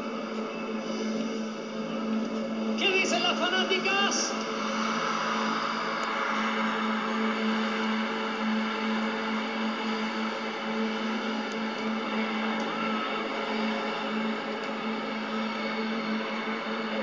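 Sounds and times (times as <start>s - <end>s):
crowd screaming and cheering: 0.0s - 17.0s
steady hum: 0.0s - 17.0s.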